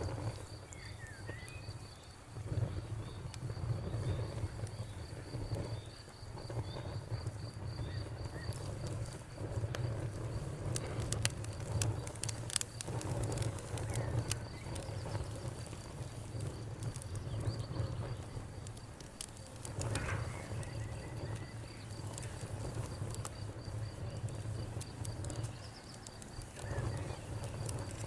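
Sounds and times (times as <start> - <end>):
crickets chirping: 0.0 - 28.0
wood fire crackling: 0.0 - 28.0.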